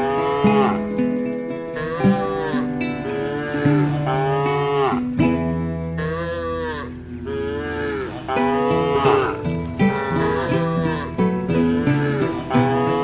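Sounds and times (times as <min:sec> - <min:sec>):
cattle mooing: 0:00.0 - 0:00.9, 0:01.7 - 0:05.1, 0:05.9 - 0:13.0
acoustic guitar music: 0:00.0 - 0:13.0.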